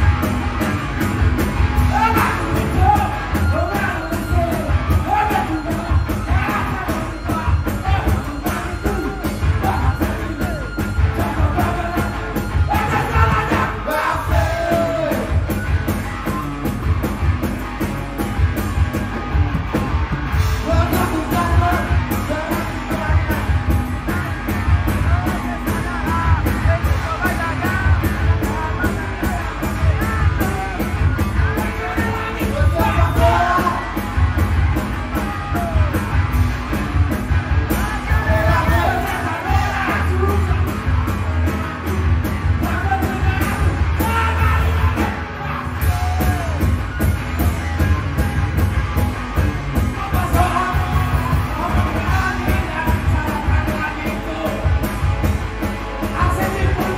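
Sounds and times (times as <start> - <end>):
drum kit beat: 0.0 - 56.9
electric bass: 0.0 - 56.9
electric guitar: 0.0 - 56.9.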